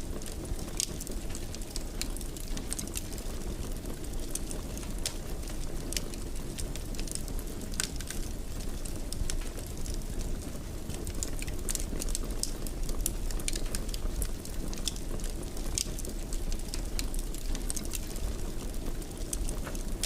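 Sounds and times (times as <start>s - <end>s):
fire crackling and popping: 0.0s - 20.0s
low rumble of burning fire: 0.0s - 20.0s.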